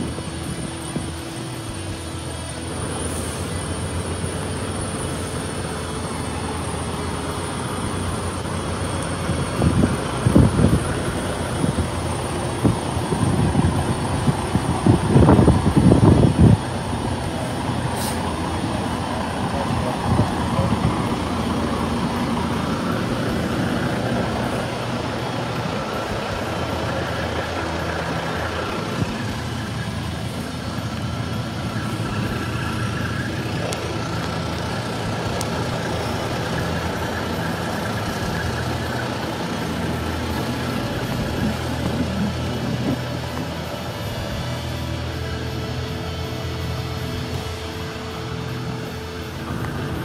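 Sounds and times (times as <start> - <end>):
diesel truck engine running: 0.0 - 50.0.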